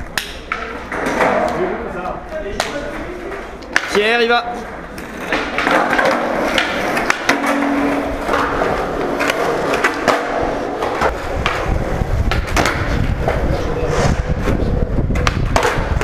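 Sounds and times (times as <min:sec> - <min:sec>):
skateboard clicks and knocks: 0:00.0 - 0:13.8, 0:14.4 - 0:16.0
skateboard wheels rumbling on concrete: 0:00.0 - 0:16.0.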